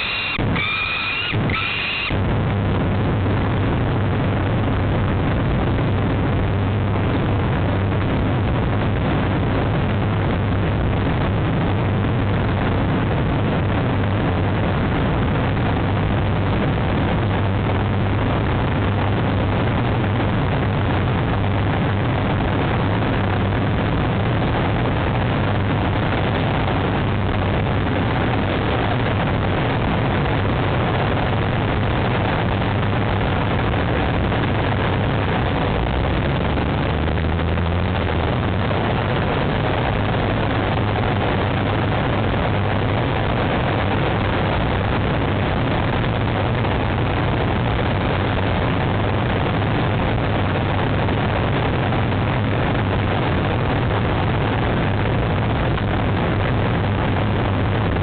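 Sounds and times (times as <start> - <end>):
loud rushing noise: 0.0 - 11.6, 13.5 - 50.7
low even hum: 0.0 - 58.0.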